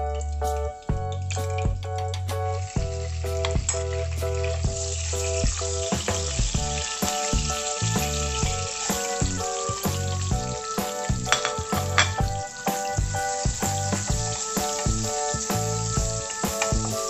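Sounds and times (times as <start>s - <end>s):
background music with steady beat: 0.0s - 17.0s
butter sizzling in oil: 2.6s - 17.0s.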